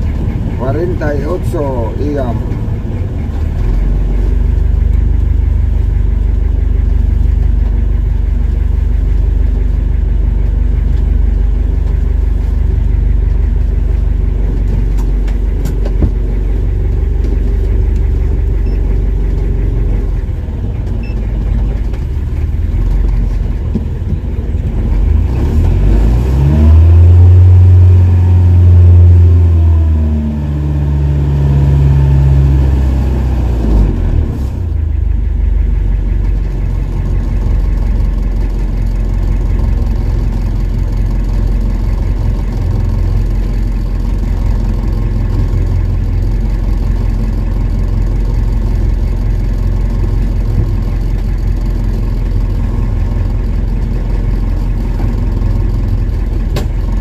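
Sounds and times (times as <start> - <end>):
boat engine running and revving: 0.0 - 57.0.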